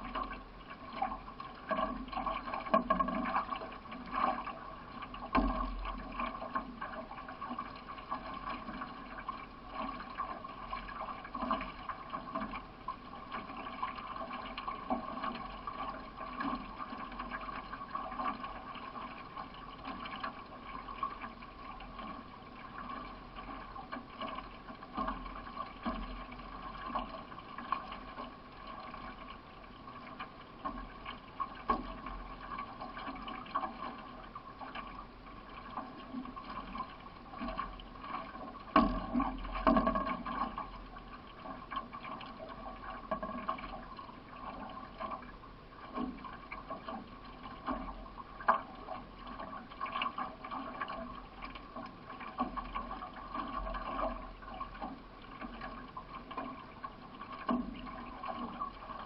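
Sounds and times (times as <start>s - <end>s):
paddle strokes splashing: 0.0s - 59.0s
water washing along hull: 0.0s - 59.0s.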